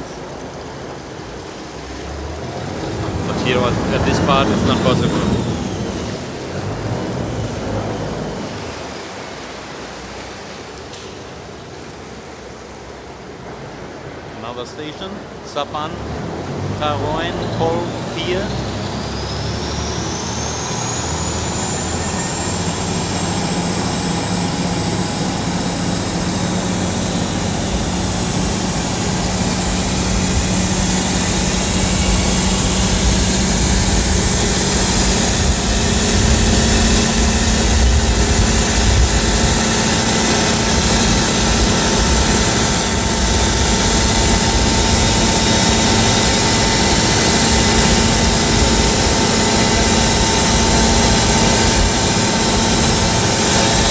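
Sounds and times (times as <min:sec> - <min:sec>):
high whine rising in pitch: 0:00.0 - 0:10.5, 0:14.4 - 0:53.9
boat engine running: 0:00.0 - 0:53.9.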